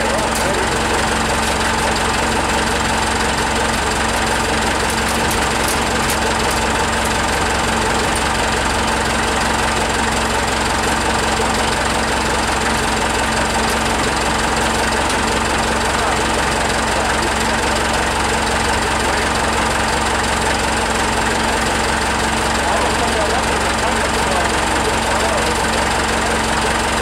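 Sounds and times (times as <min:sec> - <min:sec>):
forklift engine idling: 0:00.0 - 0:27.0.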